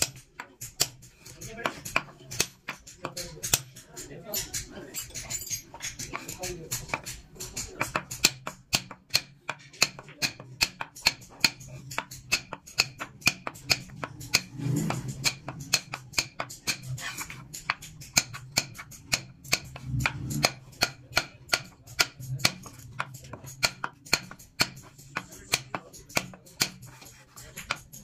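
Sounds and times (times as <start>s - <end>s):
metal punch tapping wood: 0.0s - 3.8s, 4.5s - 14.5s, 17.6s - 19.8s, 20.4s - 26.9s.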